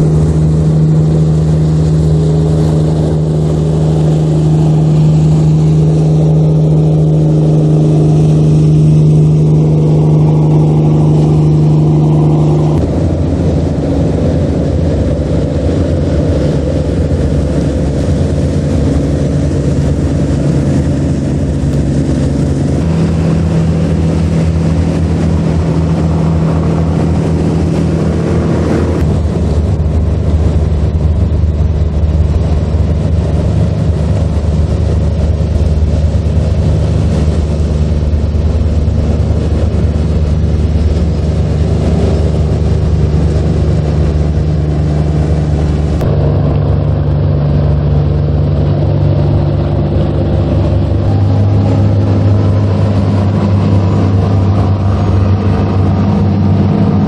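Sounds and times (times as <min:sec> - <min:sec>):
boat engines running: 0:00.0 - 0:57.0
water rushing: 0:00.0 - 0:57.0.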